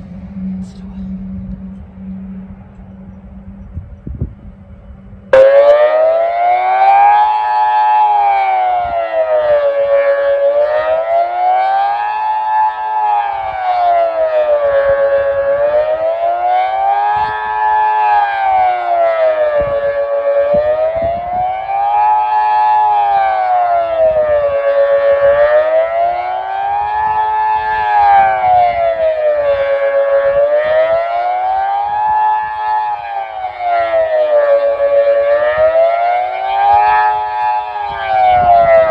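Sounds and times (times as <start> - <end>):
siren rising and falling: 0.0 - 38.9
wind buffeting microphone: 0.0 - 38.9.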